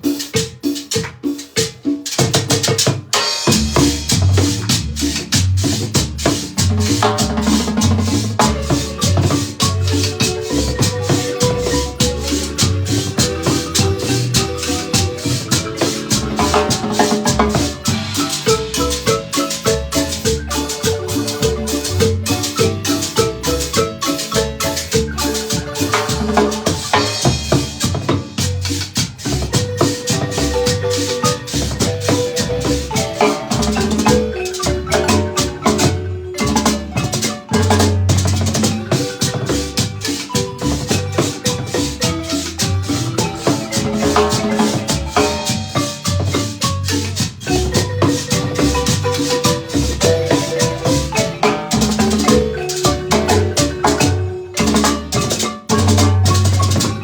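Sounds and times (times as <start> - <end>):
marimba ensemble playing: 0.0 - 57.0
shaken percussion: 0.0 - 57.0.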